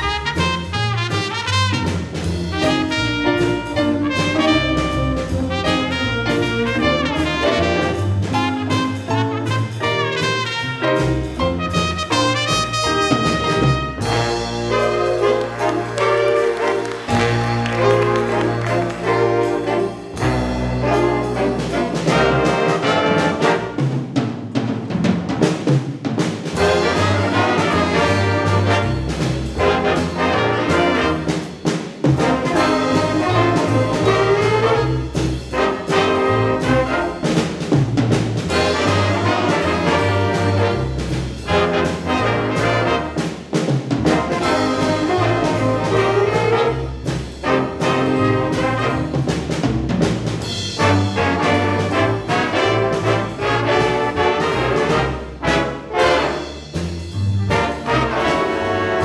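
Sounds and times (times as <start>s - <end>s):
brass section: 0.0s - 24.0s, 26.5s - 49.7s, 50.4s - 59.0s
walking bass: 0.0s - 24.0s, 26.5s - 59.0s
big band playing swing jazz: 0.0s - 59.0s
drums: 0.0s - 59.0s.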